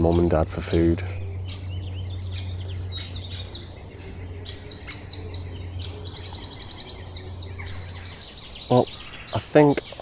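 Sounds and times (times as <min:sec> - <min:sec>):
steady low hum: 0:00.0 - 0:08.6
bird chick chirping: 0:00.0 - 0:10.0.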